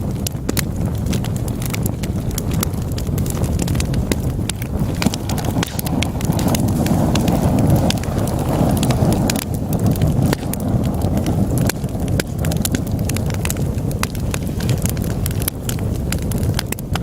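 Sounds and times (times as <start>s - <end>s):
fire roaring: 0.0s - 17.0s
wood crackling and popping: 0.0s - 17.0s.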